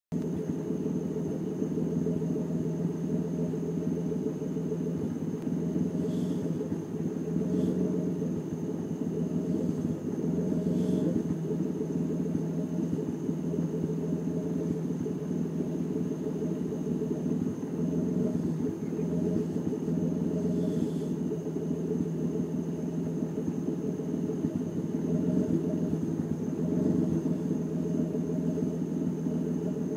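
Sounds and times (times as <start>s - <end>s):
car engine idling roughly: 0.1s - 29.9s.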